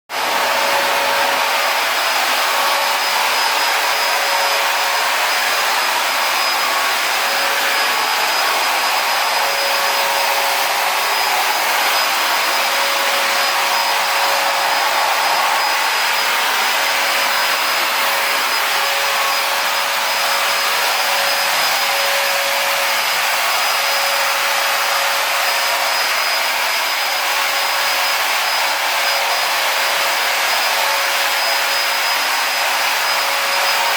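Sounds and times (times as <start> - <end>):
motorized sprayer hissing and whining: 0.2 - 33.9.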